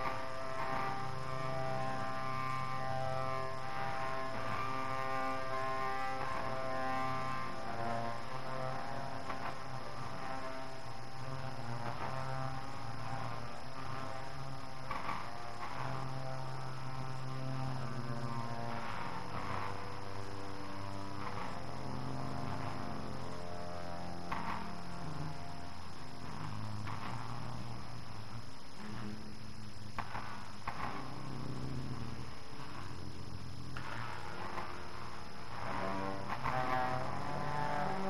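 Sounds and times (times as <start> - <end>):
droning music with held chords: 0.0 - 38.0
faint high whine: 0.0 - 38.0
tape hiss: 0.0 - 38.0.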